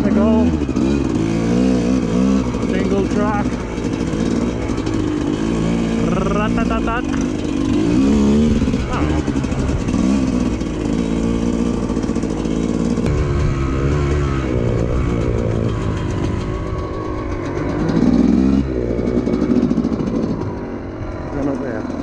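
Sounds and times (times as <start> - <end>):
two-stroke motorbike engine revving: 0.0 - 22.0.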